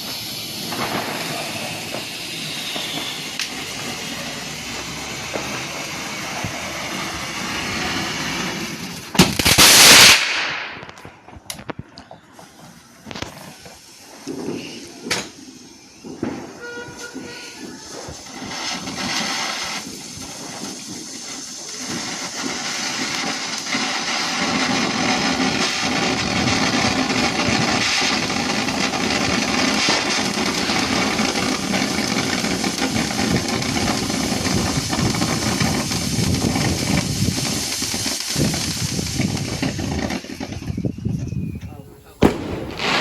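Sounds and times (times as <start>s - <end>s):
firework fountain hissing and crackling: 0.0s - 43.0s.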